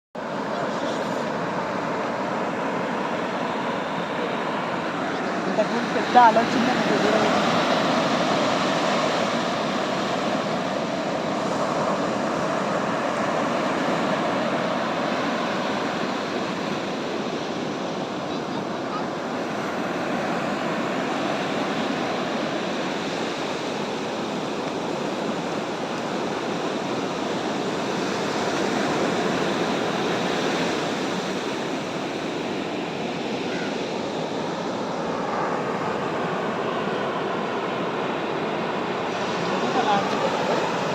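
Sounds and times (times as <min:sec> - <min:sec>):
ocean surf washing: 0:00.2 - 0:40.9.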